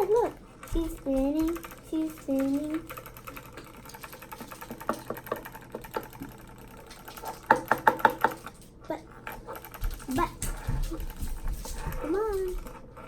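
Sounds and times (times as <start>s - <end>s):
plastic toy clicking and rattling: 0.0s - 13.0s.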